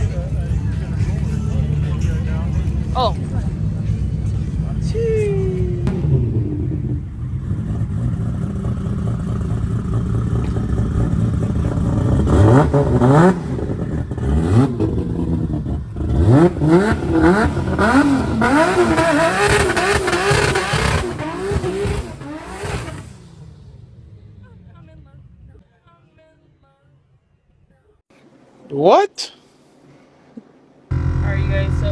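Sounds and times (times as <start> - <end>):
car engine idling and revving: 0.0 - 25.6, 30.9 - 31.9.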